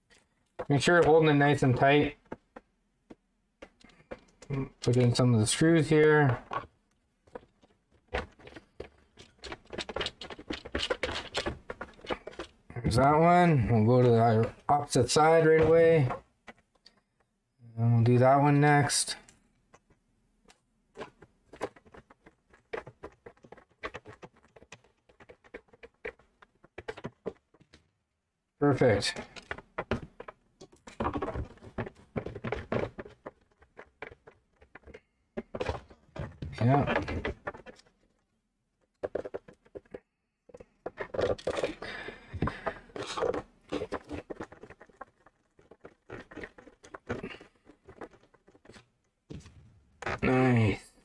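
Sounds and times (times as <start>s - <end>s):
clicks and scrapes of plastic housing: 0.1s - 17.4s, 19.2s - 27.9s, 28.7s - 50.3s.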